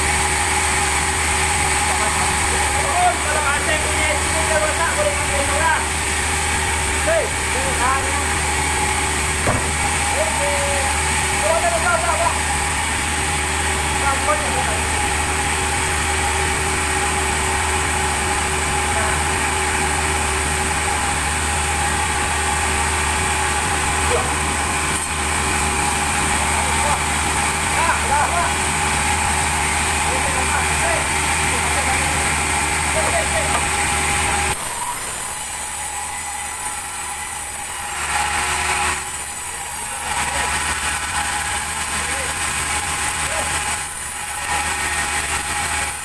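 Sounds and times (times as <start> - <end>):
saw hissing through log: 0.0 - 46.0
sawmill machinery humming and whining: 0.0 - 46.0.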